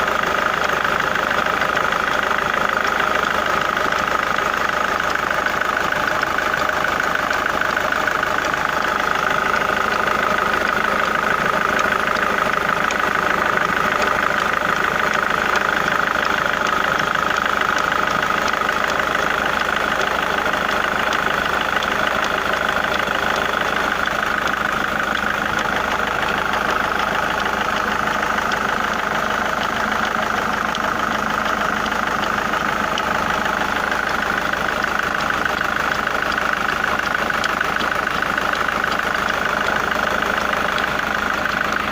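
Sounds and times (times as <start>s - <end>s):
engine idling with knocking: 0.0s - 41.9s.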